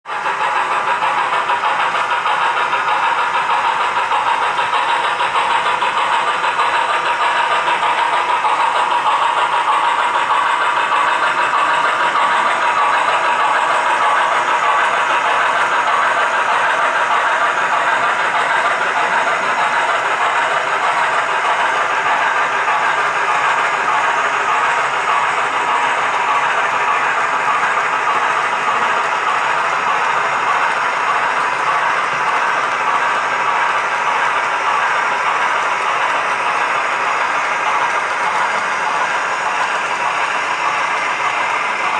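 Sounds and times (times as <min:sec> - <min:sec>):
model trains whirring on track: 0:00.1 - 0:41.9.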